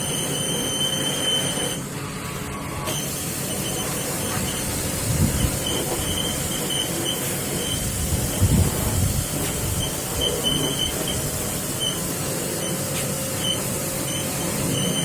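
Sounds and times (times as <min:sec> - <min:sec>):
jet pump spraying water: 0:00.0 - 0:01.9, 0:02.9 - 0:15.0.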